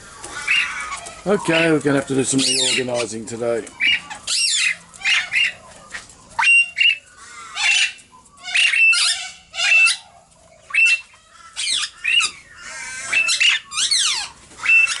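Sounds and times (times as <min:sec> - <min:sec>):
parrots squawking: 0:00.0 - 0:15.0.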